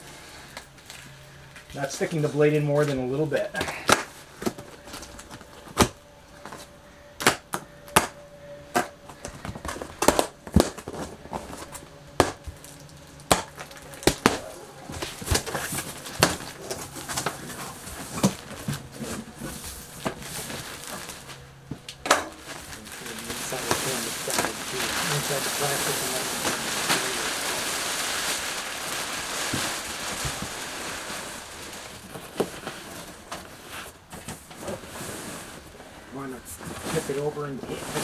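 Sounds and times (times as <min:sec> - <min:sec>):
plastic wrap rustling: 0:00.0 - 0:38.0.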